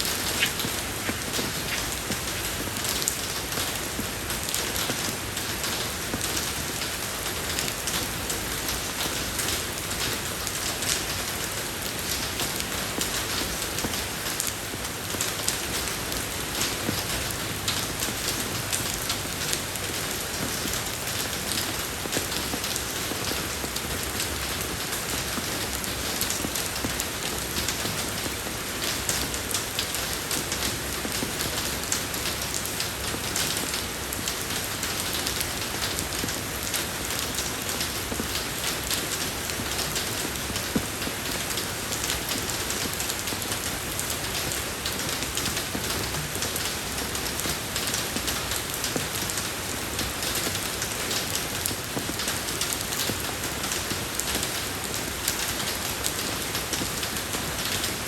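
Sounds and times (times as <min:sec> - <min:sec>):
rain on a road surface: 0:00.0 - 0:58.0.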